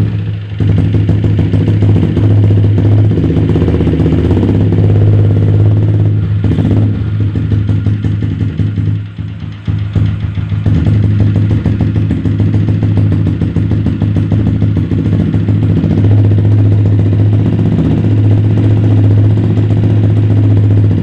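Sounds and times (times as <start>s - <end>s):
motorcycle engine exhaust note: 0.0s - 21.0s.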